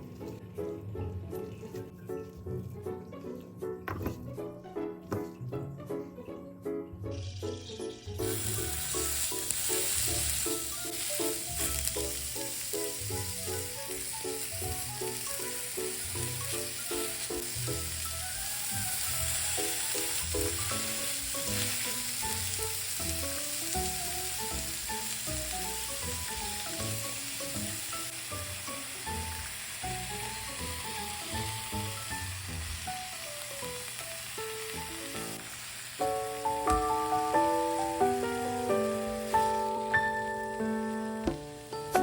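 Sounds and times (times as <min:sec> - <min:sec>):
light background music: 0:00.0 - 0:42.0
food sizzling in a pan: 0:07.1 - 0:42.0.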